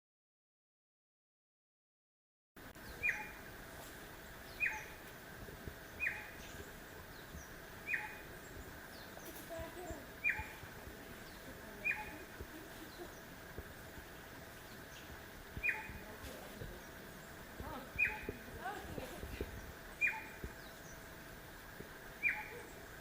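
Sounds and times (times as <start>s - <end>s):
steady background hiss: 2.6s - 23.0s
faint bird chirps: 2.7s - 5.2s, 5.8s - 21.2s, 22.1s - 23.0s.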